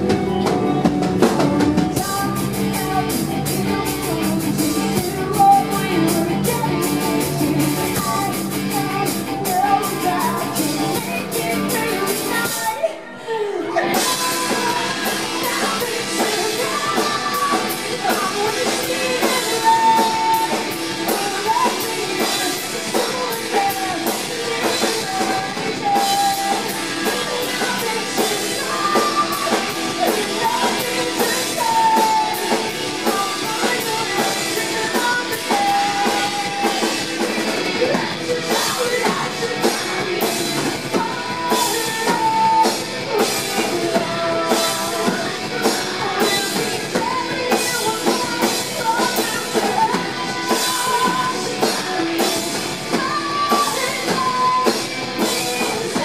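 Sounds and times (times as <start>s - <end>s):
bass guitar: 0.0s - 13.0s, 13.6s - 56.0s
drum kit: 0.0s - 13.0s, 13.7s - 56.0s
electric guitars: 0.0s - 56.0s.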